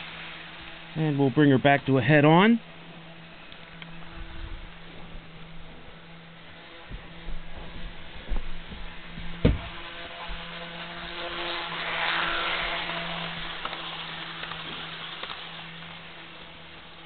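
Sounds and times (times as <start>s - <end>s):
model train whirring: 0.0s - 17.0s
steady low hum: 0.0s - 17.0s.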